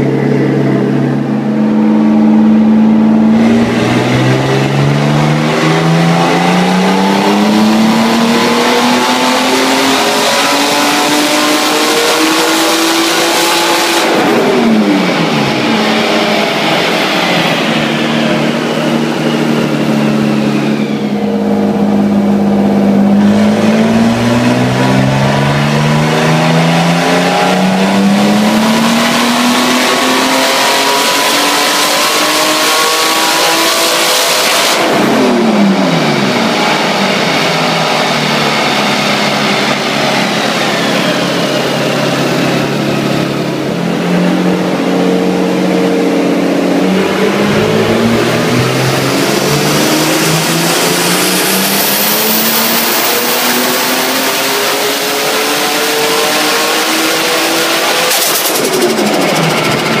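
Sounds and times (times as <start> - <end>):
car engine revving on a dyno: 0.0 - 60.0.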